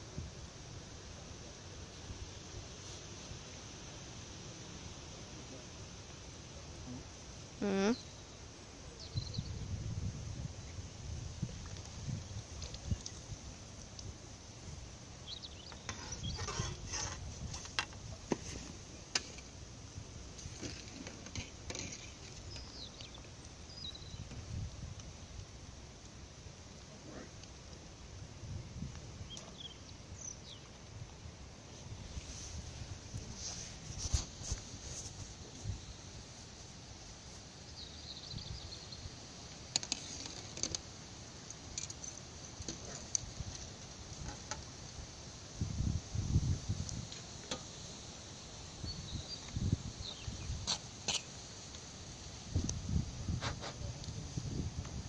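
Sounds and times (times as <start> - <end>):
faint outdoor background: 0.0 - 55.0.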